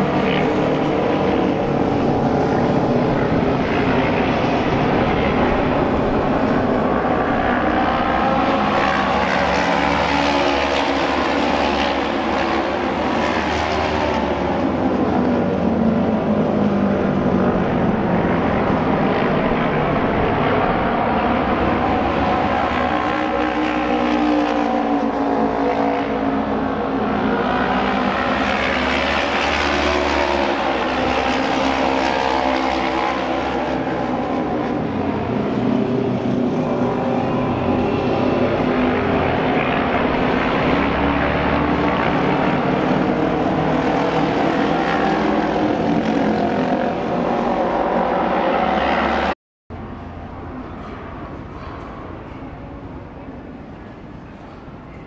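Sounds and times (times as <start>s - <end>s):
racing motorcycles howling: 0.0s - 49.4s.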